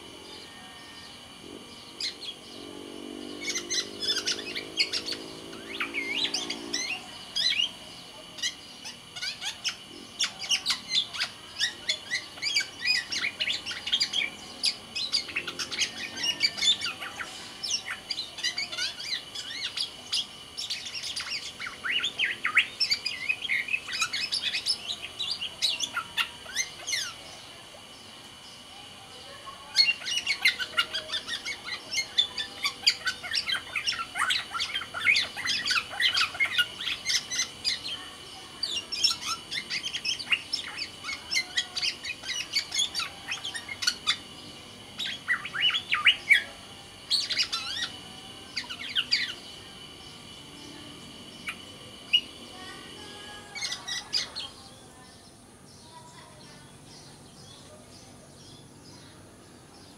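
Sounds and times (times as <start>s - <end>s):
oriole singing chirps and whistles: 0.0s - 59.9s.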